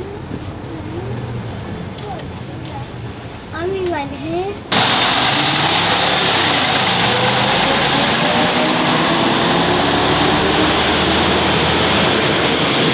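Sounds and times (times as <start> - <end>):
bus engine accelerating: 0.0 - 12.9
street traffic noise: 0.0 - 12.9.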